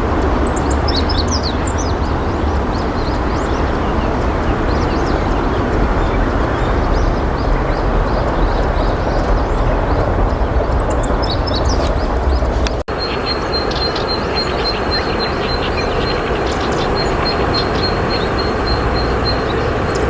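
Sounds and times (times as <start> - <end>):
small birds chirping: 0.0 - 20.0
steady rushing noise: 0.0 - 20.0.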